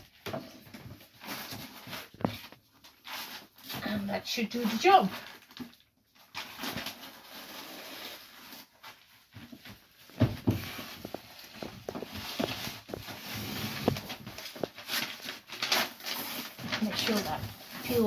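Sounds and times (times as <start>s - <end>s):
paper backing rustling: 0.1s - 18.0s.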